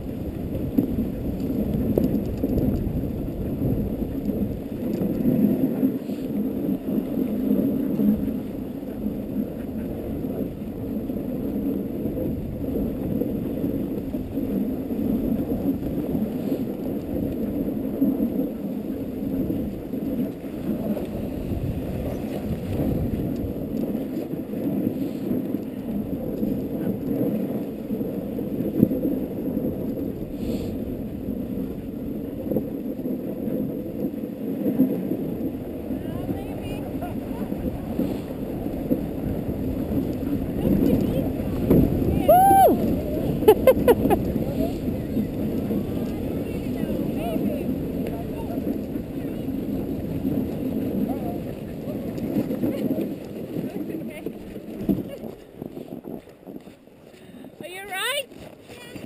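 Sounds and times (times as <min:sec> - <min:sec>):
sled scraping over snow: 0:00.0 - 0:59.0.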